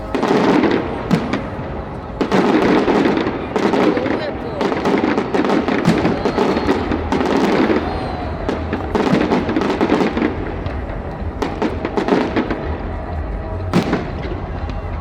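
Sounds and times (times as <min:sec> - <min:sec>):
fireworks bangs and crackling: 0:00.0 - 0:15.0
music playing: 0:00.0 - 0:15.0.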